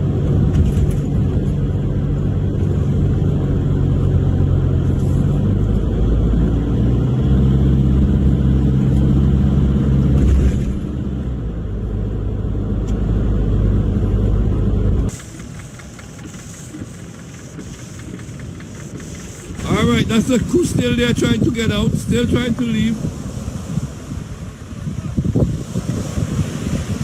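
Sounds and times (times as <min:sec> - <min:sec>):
car engine humming: 0:00.0 - 0:27.0.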